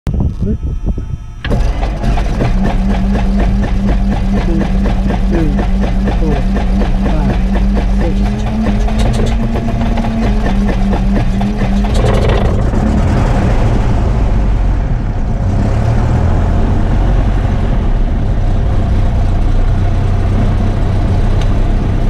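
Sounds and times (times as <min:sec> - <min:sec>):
aircraft engine cranking and running: 0:00.2 - 0:22.0.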